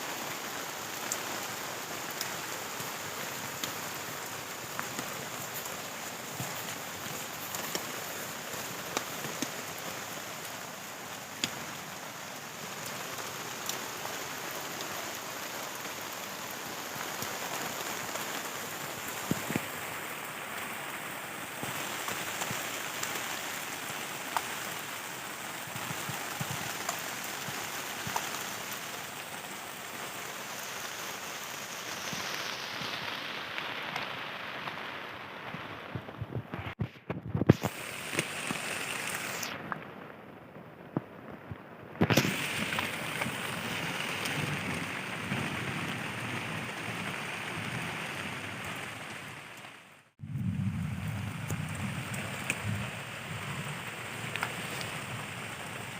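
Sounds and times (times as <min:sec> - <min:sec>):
heavy rain on tent fabric: 0:00.0 - 0:55.9.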